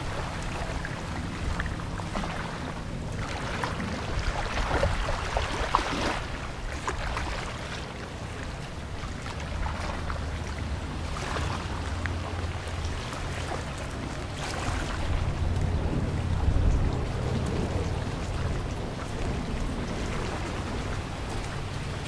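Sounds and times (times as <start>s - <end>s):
waves washing: 0.0s - 22.0s
wind: 0.0s - 22.0s.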